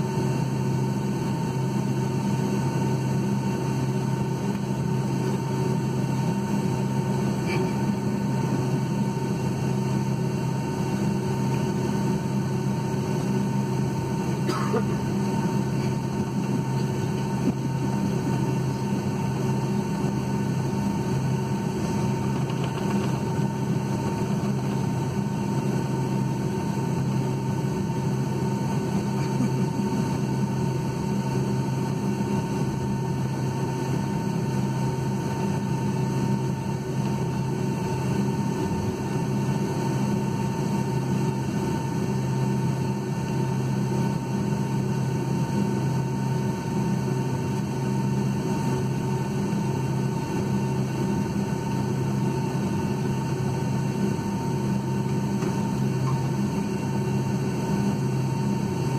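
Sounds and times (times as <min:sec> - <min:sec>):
thin steady whine: 0:00.0 - 0:58.9
aircraft cabin hum: 0:00.1 - 0:45.3, 0:45.9 - 0:58.9.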